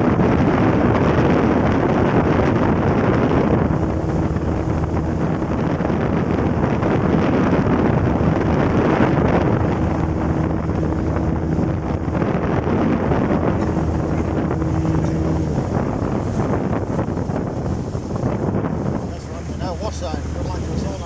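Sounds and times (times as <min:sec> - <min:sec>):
motorboat engine hum: 0:00.0 - 0:21.0
water noise: 0:00.0 - 0:21.0
wind rush on microphone: 0:00.0 - 0:21.0.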